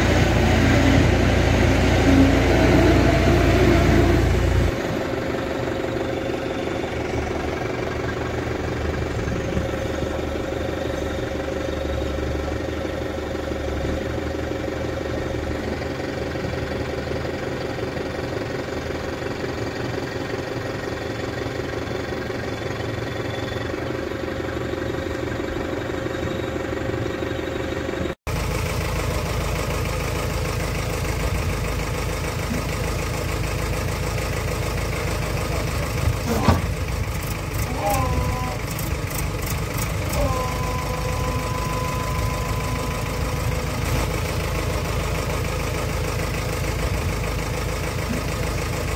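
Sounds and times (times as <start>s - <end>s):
backhoe diesel engine running: 0.0s - 48.9s
forklift engine running: 0.0s - 48.9s.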